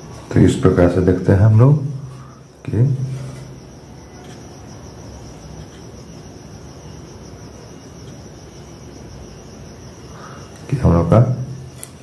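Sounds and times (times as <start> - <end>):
insects chirping trill: 0.0 - 12.0.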